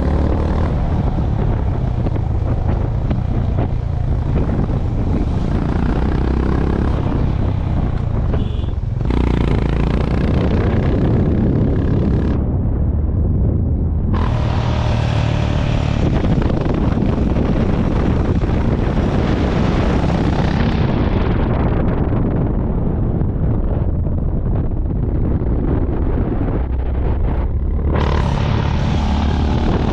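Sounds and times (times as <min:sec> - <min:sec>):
motorcycle engine running: 0:00.0 - 0:12.4, 0:14.2 - 0:21.6, 0:25.7 - 0:29.9
wind rushing over microphone: 0:00.0 - 0:29.9.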